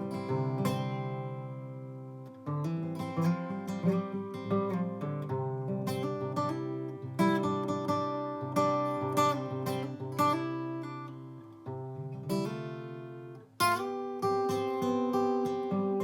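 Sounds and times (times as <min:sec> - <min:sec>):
acoustic guitar picked chords: 0:00.0 - 0:16.0.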